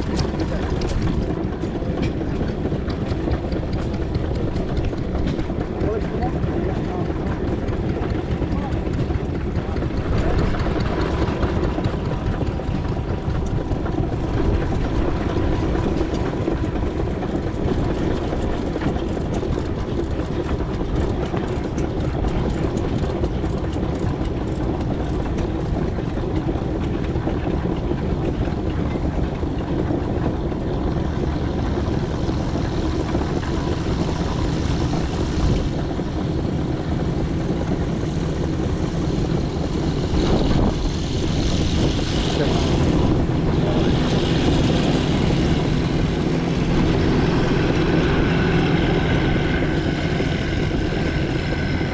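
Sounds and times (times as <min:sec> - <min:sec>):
traction engine running: 0:00.0 - 0:51.9.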